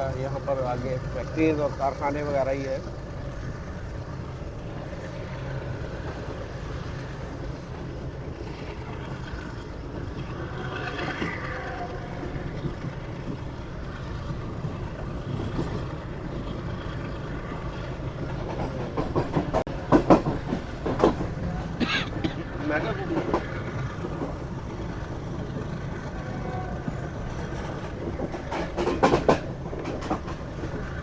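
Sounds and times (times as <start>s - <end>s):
train rumbling on rails: 0.0s - 31.0s
wheel clacks over rail joints: 5.8s - 31.0s.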